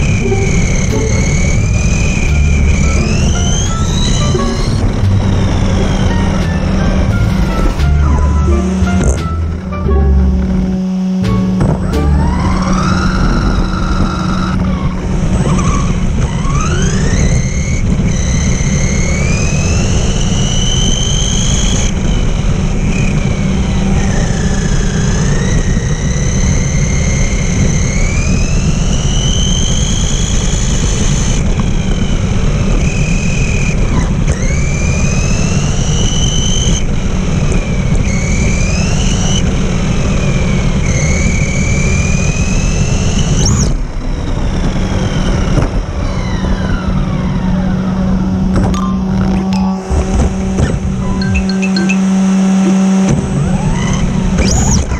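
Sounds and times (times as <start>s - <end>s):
rc car motor whining: 0.0s - 9.7s, 10.4s - 51.3s, 52.7s - 54.9s.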